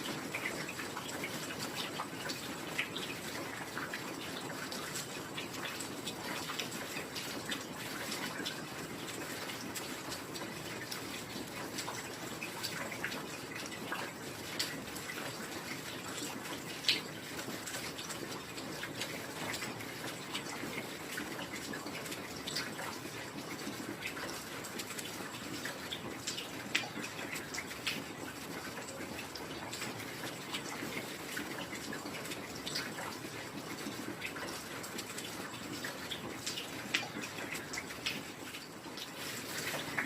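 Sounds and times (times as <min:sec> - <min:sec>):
raindrops ticking: 0:00.0 - 0:40.0.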